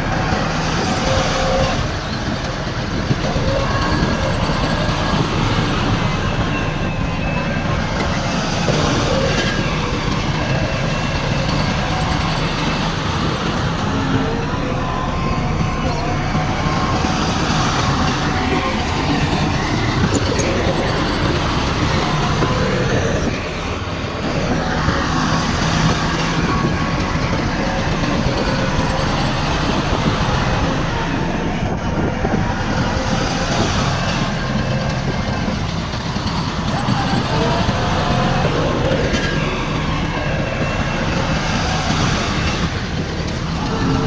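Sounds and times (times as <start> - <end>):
diesel earthmoving machinery engine: 0.0 - 44.0
machinery rattling and clatter: 0.0 - 44.0.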